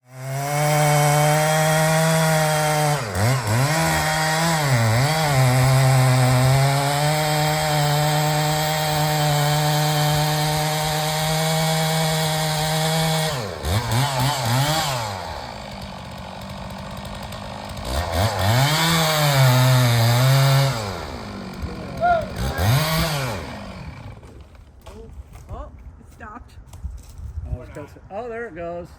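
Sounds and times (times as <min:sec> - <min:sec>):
chainsaw cutting into tree: 0:00.0 - 0:24.8.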